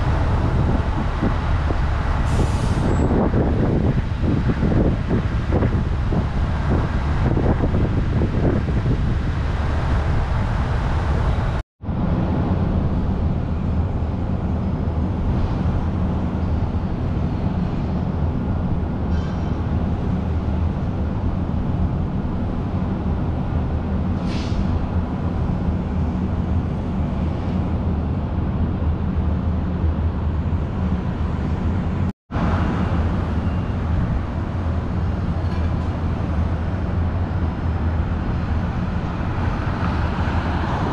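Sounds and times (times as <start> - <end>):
vehicle and road noise: 0.0 - 40.9.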